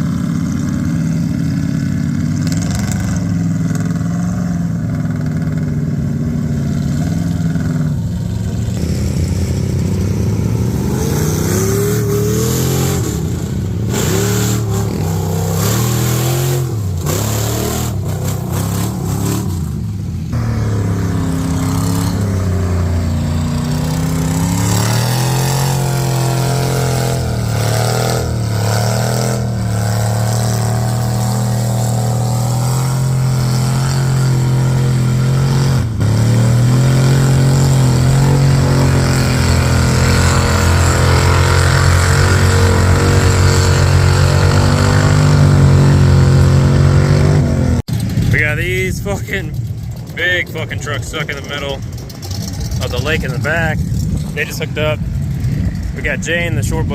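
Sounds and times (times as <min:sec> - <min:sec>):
truck engine revving: 0:00.0 - 0:56.9.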